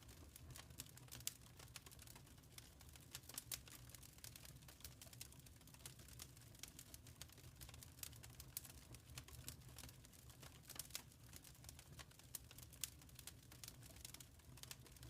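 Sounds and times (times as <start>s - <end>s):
faint wood fire crackling: 0.0s - 15.0s.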